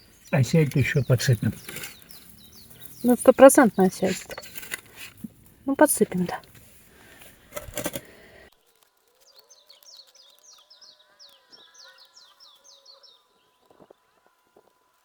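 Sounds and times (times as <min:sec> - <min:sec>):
birds chirping: 0:00.0 - 0:08.5, 0:09.3 - 0:13.9.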